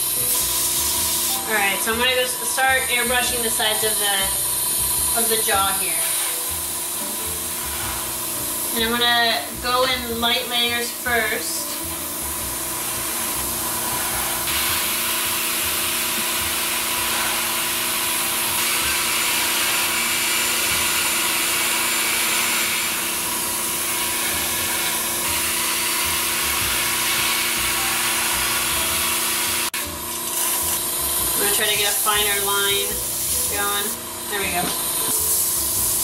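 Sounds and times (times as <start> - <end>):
airbrush air hiss: 0.0 - 36.0
small compressor humming: 0.0 - 36.0.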